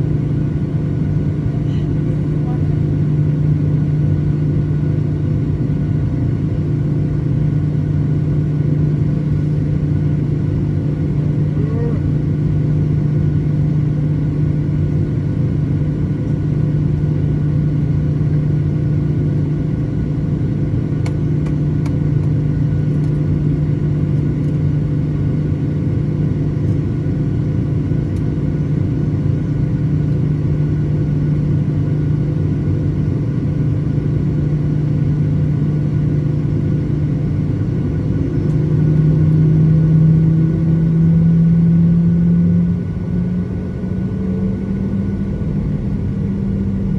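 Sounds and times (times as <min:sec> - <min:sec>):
jet engines droning: 0:00.0 - 0:46.9.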